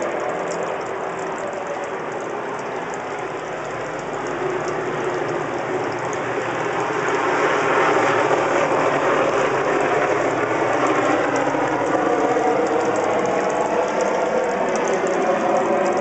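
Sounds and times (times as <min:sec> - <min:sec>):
water fountain splashing: 0:00.0 - 0:16.0.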